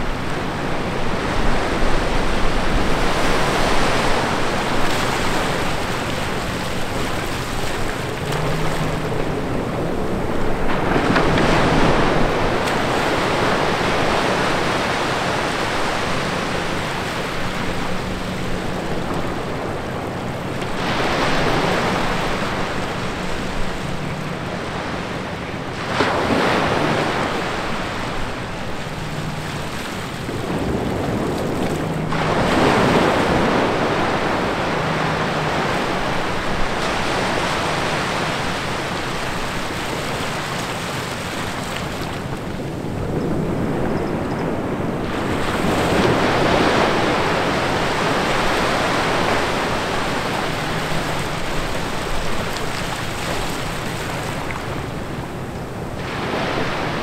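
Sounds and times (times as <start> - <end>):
small waves breaking on rocks: 1.2 - 24.9, 25.8 - 44.0, 44.6 - 57.0.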